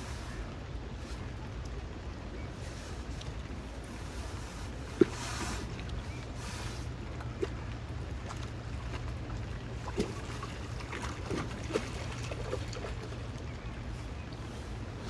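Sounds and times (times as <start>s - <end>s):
wind rumble on microphone: 0.0s - 15.0s
water splashing: 2.5s - 15.0s.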